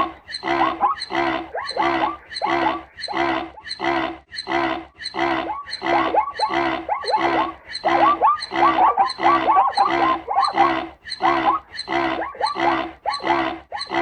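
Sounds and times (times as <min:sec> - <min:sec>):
zebra braying: 0:00.0 - 0:14.0.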